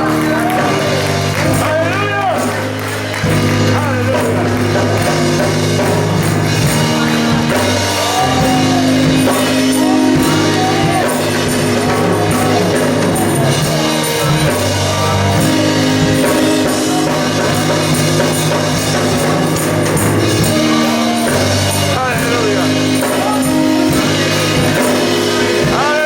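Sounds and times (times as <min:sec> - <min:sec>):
band playing chords: 0:00.0 - 0:26.0
person singing: 0:03.5 - 0:18.6, 0:19.7 - 0:26.0.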